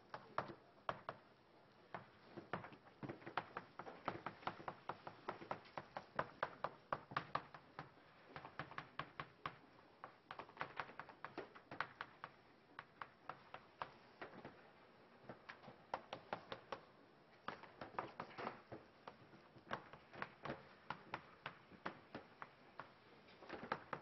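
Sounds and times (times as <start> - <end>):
chalk tapping on chalkboard: 3.3 - 14.4, 15.6 - 24.0.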